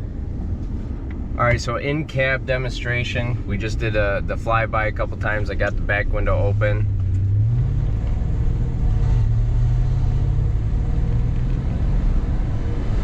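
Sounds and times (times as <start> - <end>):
truck exhaust droning: 0.0 - 13.0.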